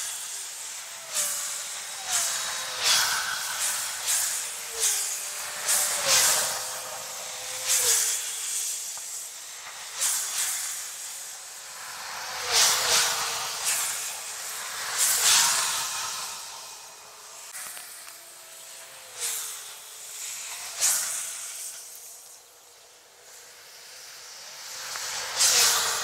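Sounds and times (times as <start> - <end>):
high hissing vehicle whooshes: 0.0 - 26.0.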